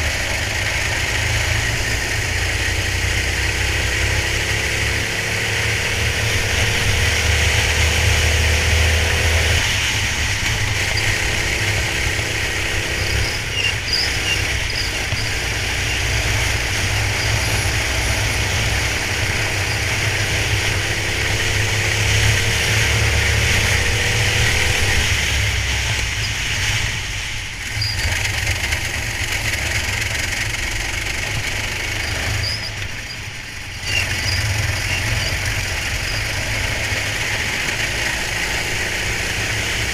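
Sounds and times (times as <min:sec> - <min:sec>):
kart engine accelerating: 0:00.0 - 0:33.2, 0:33.8 - 0:39.9.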